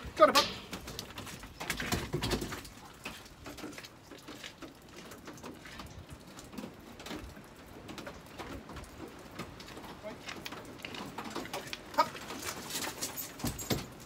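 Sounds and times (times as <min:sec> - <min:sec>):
dog paws scrabbling in crate: 0:00.0 - 0:14.0.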